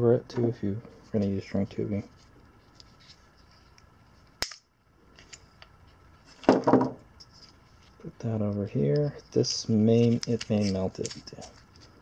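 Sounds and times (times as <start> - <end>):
hands rustling wiring: 1.0 - 12.0.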